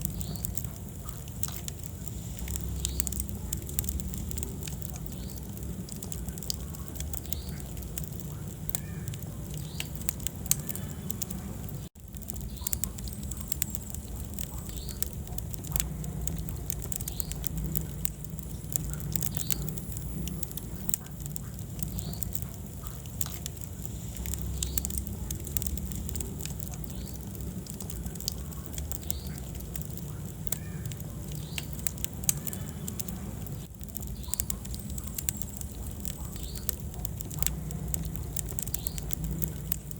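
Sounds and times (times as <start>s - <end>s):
fire rumbling: 0.0s - 39.9s
logs crackling and popping: 0.0s - 39.9s.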